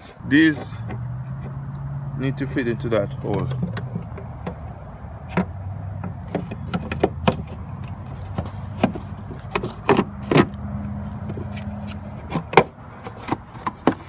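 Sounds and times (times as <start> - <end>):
plastic clicks and knocks: 0.6 - 1.9, 3.1 - 10.6, 11.2 - 14.0.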